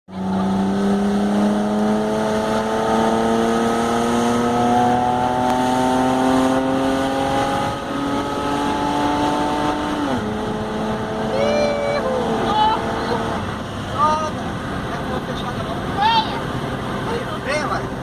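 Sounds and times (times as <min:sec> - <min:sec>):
car engine accelerating: 0:00.1 - 0:18.0.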